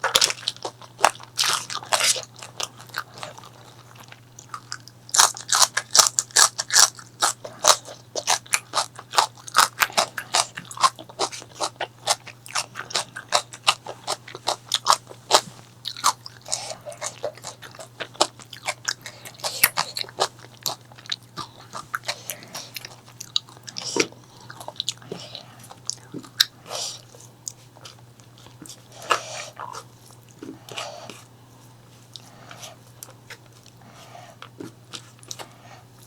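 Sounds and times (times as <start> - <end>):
chewing crunchy food: 0.0 - 36.0
faint low hum: 0.0 - 36.0.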